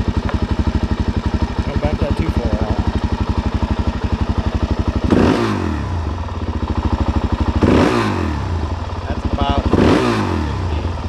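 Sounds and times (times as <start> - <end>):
engine throttle blips: 0.0 - 11.0
motorcycle engine idling: 0.0 - 11.0.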